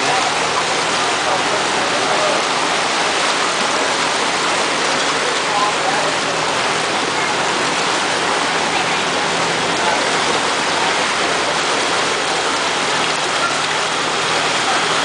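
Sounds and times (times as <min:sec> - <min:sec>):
floodwater rushing and splashing: 0:00.0 - 0:15.0.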